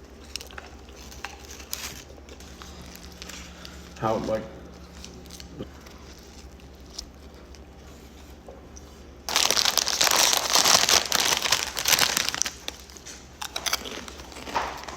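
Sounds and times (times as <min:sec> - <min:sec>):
food packaging crinkling: 0:00.0 - 0:14.9.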